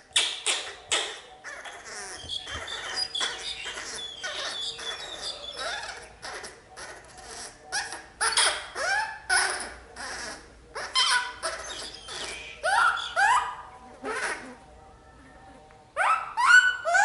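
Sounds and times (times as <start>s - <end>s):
baby monkey squeaking: 0.1s - 14.6s, 16.0s - 17.0s.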